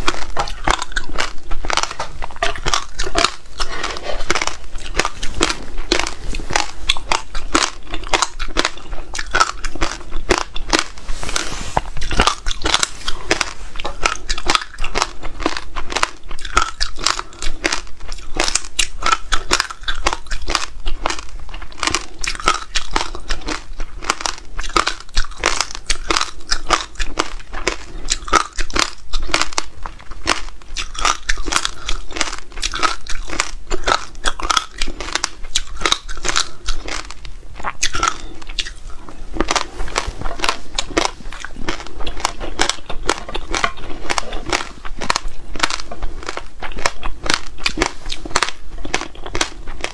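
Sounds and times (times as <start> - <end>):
crunching and chewing: 0.0 - 49.9.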